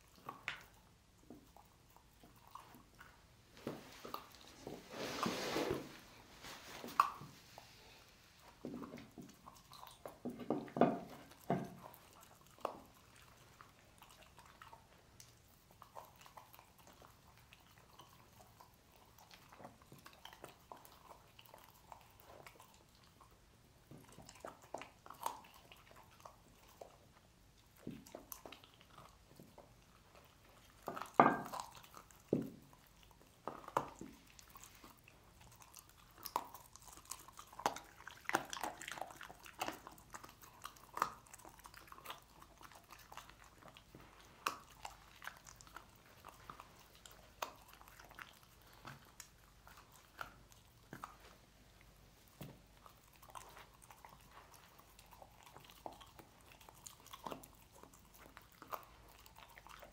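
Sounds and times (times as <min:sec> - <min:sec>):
dog chewing bones: 0:06.8 - 0:59.9.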